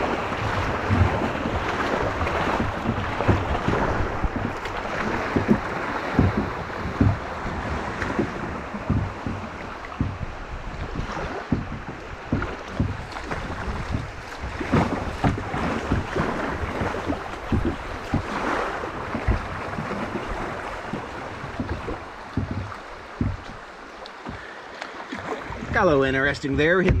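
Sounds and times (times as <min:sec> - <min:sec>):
wind on microphone: 0:00.0 - 0:24.4
creek water rushing and splashing: 0:00.0 - 0:27.0
low thumps against hull: 0:00.0 - 0:27.0.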